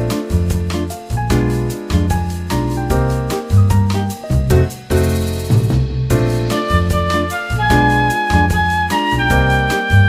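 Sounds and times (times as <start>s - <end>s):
upbeat piano music with beat: 0.0s - 10.0s.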